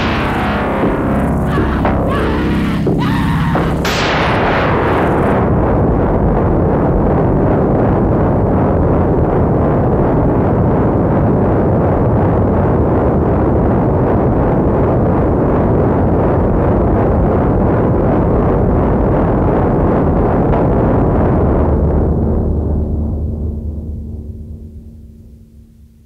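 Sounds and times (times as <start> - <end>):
distorted noise music: 0.0 - 16.5, 17.2 - 25.4.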